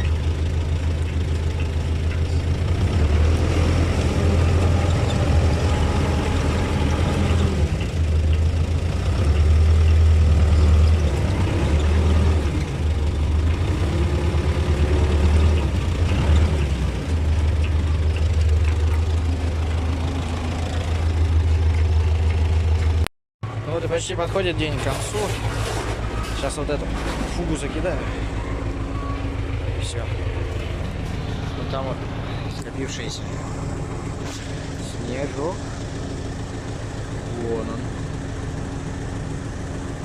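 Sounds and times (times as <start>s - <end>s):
tractor diesel engine rumbling: 0.0s - 40.0s.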